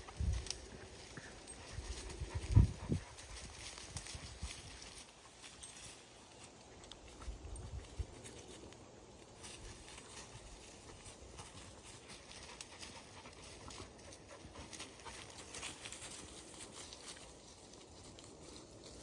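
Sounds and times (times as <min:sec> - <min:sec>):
dog paws crunching dry leaves: 0:00.0 - 0:19.0.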